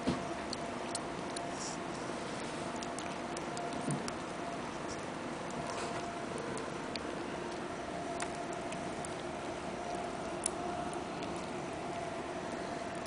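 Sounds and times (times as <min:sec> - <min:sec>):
faint hum: 0:00.0 - 0:13.0
kittens suckling clicks: 0:00.2 - 0:13.0.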